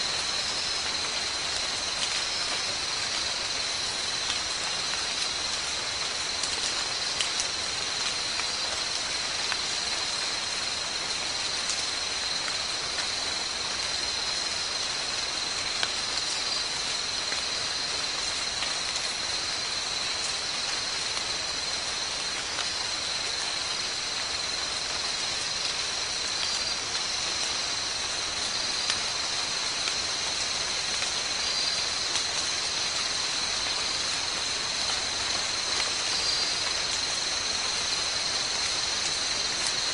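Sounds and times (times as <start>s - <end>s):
background hiss: 0.0s - 39.9s
insects high-pitched whine: 0.0s - 39.9s.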